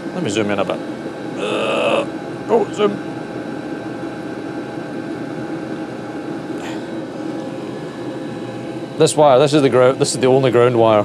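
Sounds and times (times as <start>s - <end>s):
heater blower humming: 0.0s - 11.0s.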